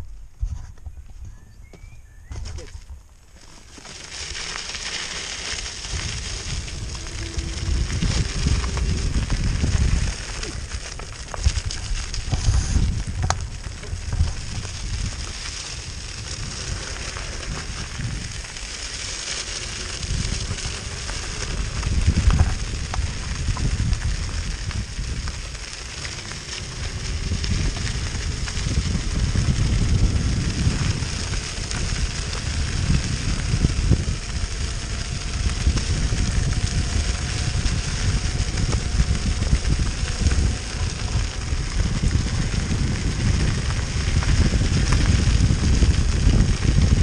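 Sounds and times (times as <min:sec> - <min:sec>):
tyres crunching on gravel: 0:00.3 - 0:47.0
low rumble: 0:04.2 - 0:47.0.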